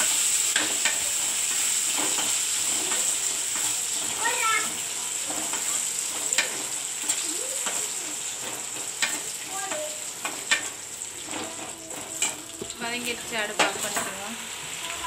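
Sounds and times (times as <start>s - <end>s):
nuts frying in oil sizzling: 0.0s - 15.0s.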